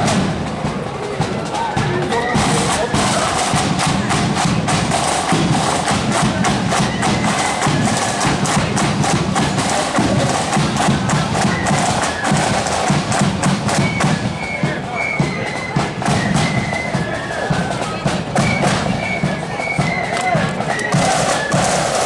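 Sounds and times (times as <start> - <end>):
marching band playing: 0.0 - 22.0
snare and bass drums beating: 0.0 - 22.0.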